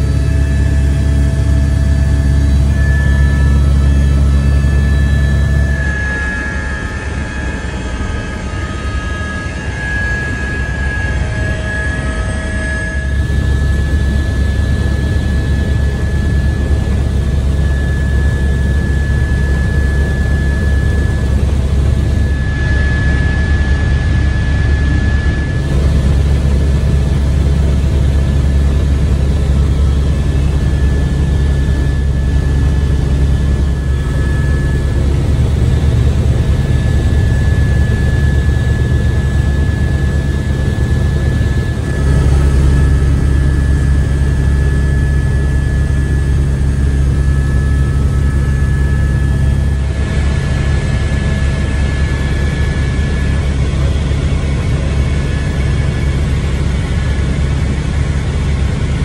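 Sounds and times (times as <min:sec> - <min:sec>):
helicopter engine and rotor: 0:00.0 - 0:59.0.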